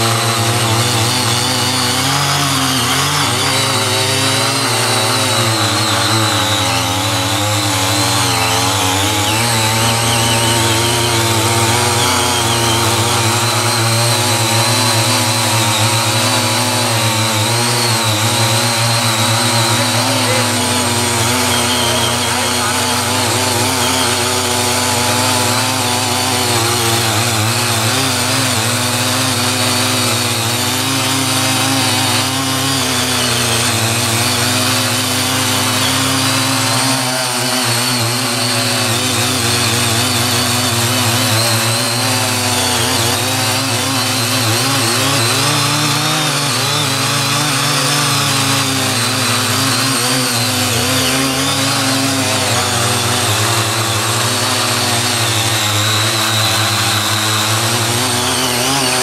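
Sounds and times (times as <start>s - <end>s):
garden tiller engine running: 0.0s - 59.0s.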